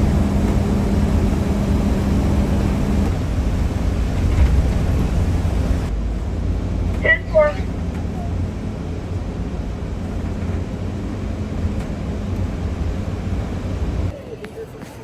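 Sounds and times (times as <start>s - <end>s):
low vehicle rumble: 0.0s - 14.1s
constant hum: 0.0s - 14.7s.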